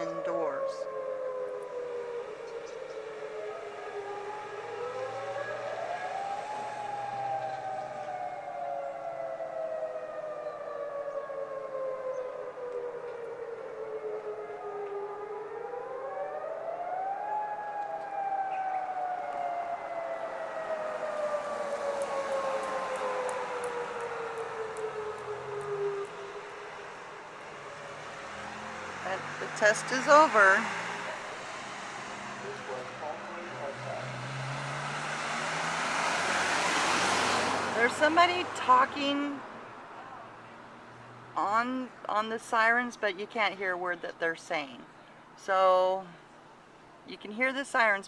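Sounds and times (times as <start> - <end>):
distant warning sirens wailing: 0.0 - 48.0.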